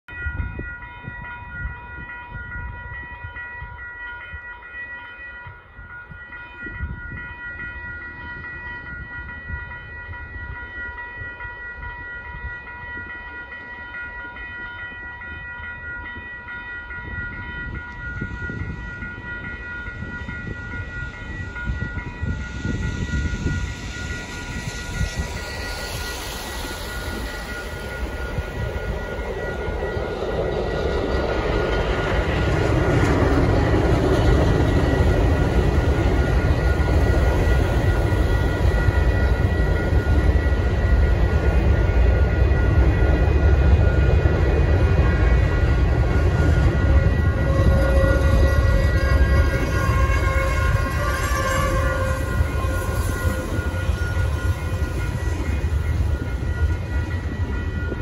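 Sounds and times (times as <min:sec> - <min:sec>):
freight train approaching: 0:00.0 - 0:58.0
railroad crossing bell ringing: 0:00.1 - 0:58.0.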